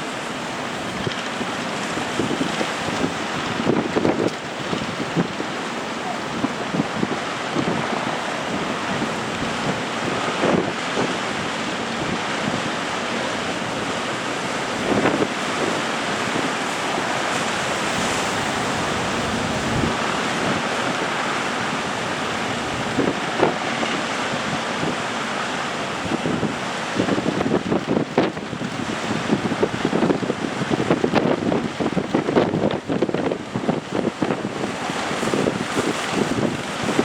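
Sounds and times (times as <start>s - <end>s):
rough sea surf: 0.0s - 37.0s
wind buffeting microphone: 0.0s - 37.0s.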